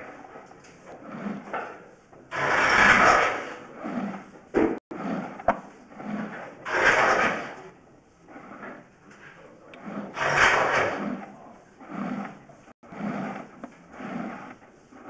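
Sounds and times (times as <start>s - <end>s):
cable scraping through pipe: 0.0s - 15.0s.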